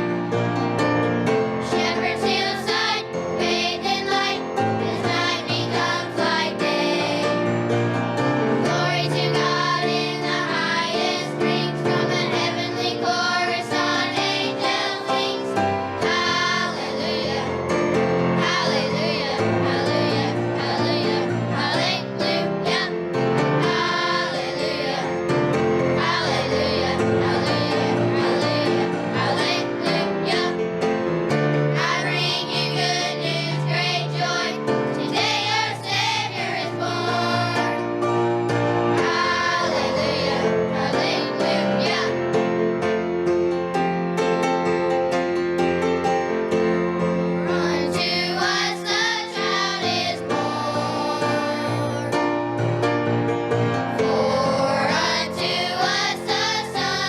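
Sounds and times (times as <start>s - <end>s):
children's choir singing: 0.0s - 44.7s, 47.0s - 57.0s
musical accompaniment: 0.0s - 57.0s.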